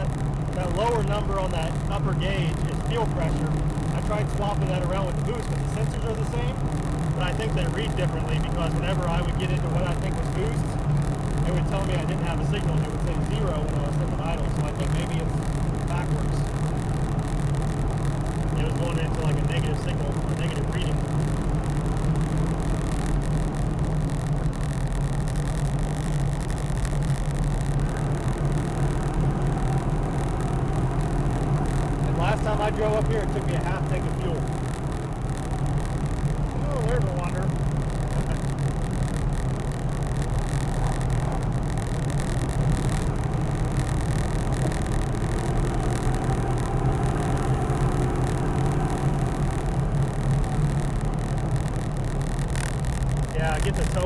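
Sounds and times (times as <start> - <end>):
diesel engine drone: 0.0 - 54.0
faint whine: 0.0 - 54.0
tyre and road noise: 0.0 - 54.0.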